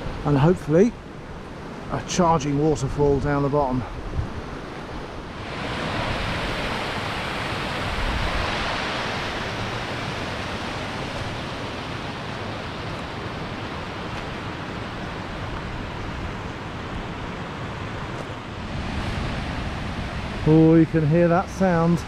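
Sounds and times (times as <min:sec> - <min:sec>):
rushing stream water: 0:00.0 - 0:22.0.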